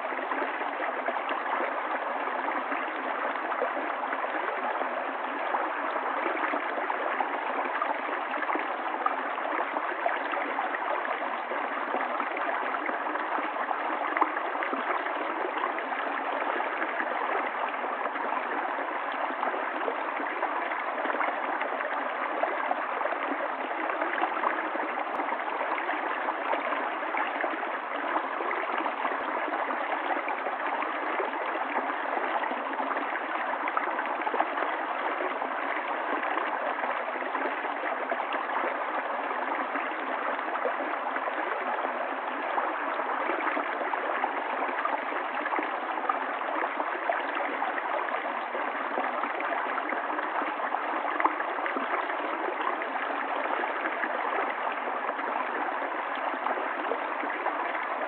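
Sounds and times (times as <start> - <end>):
stream gurgling and splashing: 0.0 - 58.0.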